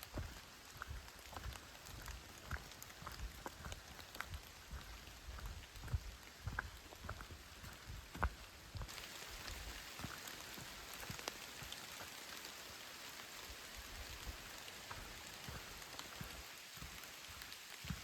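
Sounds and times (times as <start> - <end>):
raindrops ticking: 0.0 - 18.0
steady rain: 0.0 - 18.0.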